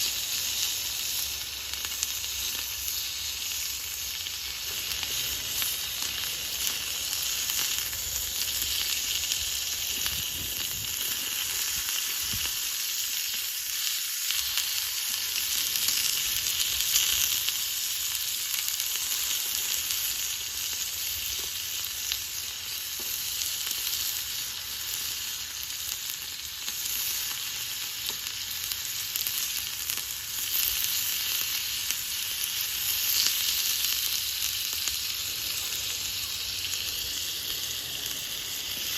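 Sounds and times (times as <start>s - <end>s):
food sizzling: 0.0s - 38.9s
wood fire crackling: 0.0s - 38.9s.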